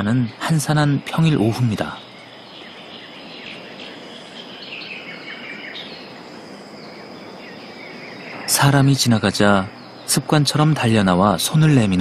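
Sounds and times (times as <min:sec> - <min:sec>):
bird chirps: 0:00.0 - 0:12.0
steady hiss: 0:00.0 - 0:12.0.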